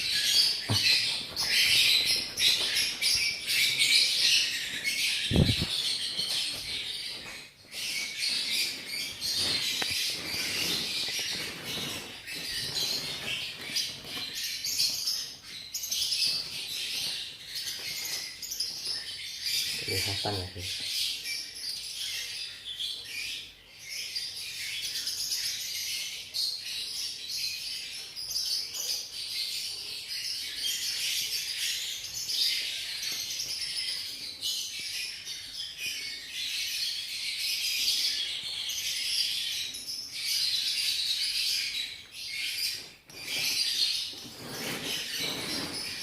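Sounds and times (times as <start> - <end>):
birds chirping and twittering: 0.0 - 46.0.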